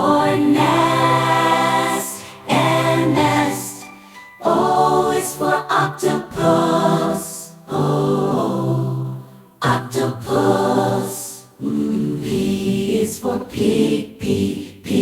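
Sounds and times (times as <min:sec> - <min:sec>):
children's song being sung: 0:00.0 - 0:15.0.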